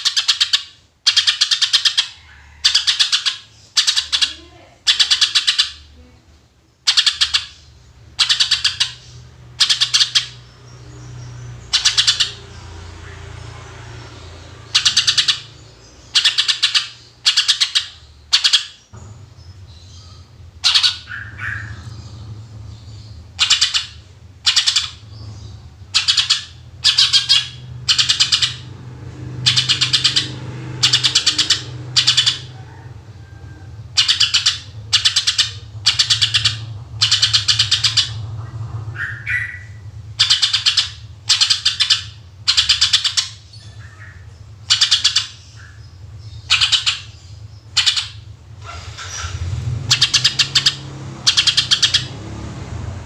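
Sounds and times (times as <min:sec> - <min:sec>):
steady low hum: 0:03.3 - 0:53.0.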